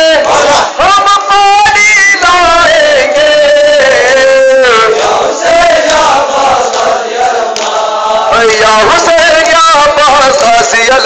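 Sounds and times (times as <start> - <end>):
crowd of voices: 0.0 - 11.0
men chanting a lament: 0.0 - 11.0.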